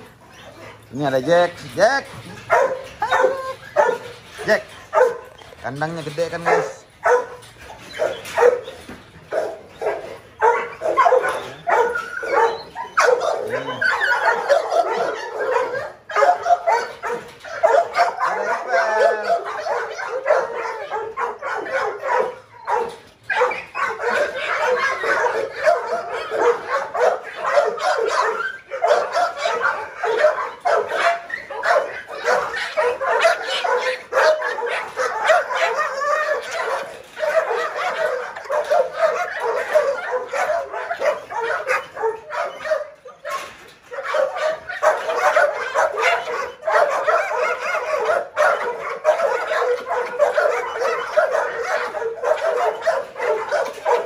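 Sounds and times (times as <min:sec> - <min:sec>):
dogs barking and whining: 0:00.0 - 0:54.0.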